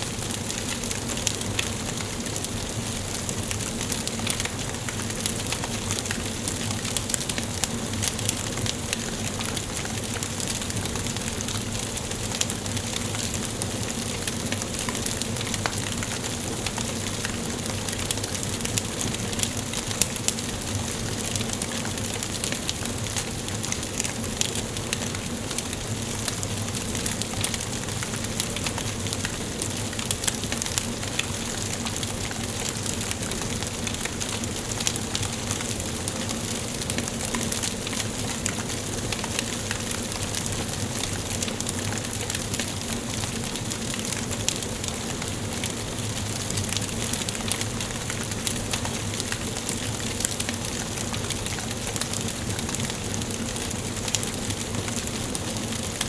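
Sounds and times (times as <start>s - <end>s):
fire hiss: 0.0s - 56.0s
wood fire crackling and popping: 0.0s - 56.0s.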